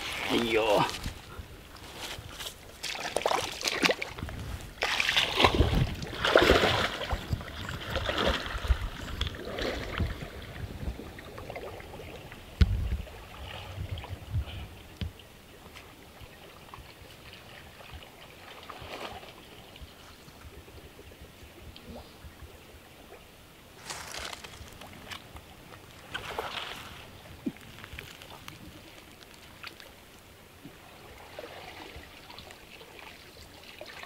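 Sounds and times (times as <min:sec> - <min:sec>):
water sloshing from wading: 0:00.0 - 0:20.0, 0:23.8 - 0:30.0, 0:30.6 - 0:34.0.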